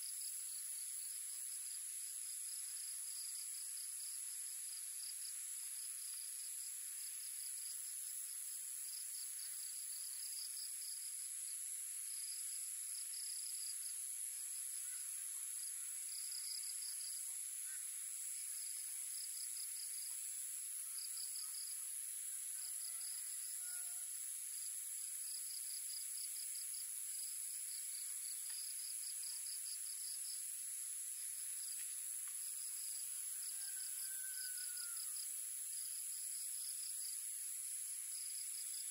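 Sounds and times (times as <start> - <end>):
crickets chirping: 0.0 - 38.9
insects droning: 0.0 - 38.9.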